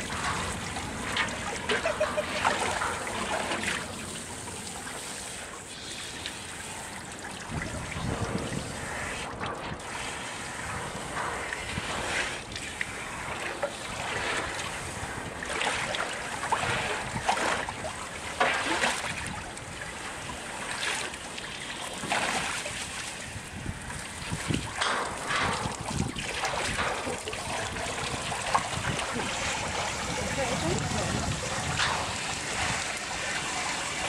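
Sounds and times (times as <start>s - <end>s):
bear splashing in metal trough: 0.0s - 5.5s, 7.1s - 34.0s.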